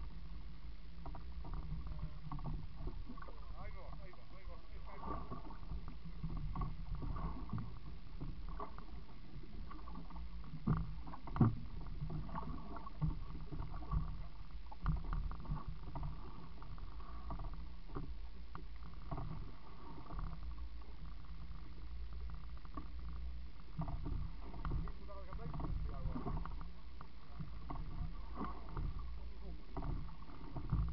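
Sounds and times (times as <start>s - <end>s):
water sloshing against boat: 0.0s - 30.9s.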